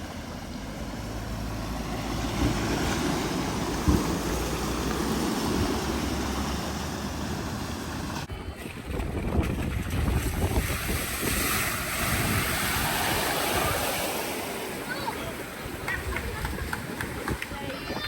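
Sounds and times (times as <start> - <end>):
rushing water: 0.0 - 18.0
wind buffeting microphone: 2.0 - 18.0.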